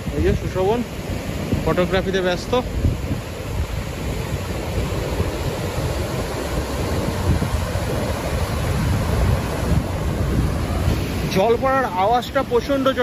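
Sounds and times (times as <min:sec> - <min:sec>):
water rushing through sluice gates: 0:00.0 - 0:13.0.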